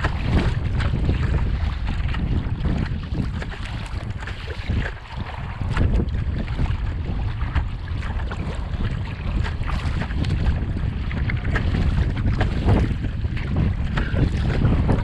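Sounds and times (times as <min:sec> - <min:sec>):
choppy water splashing: 0:00.0 - 0:15.0
wind buffeting microphone: 0:00.0 - 0:15.0.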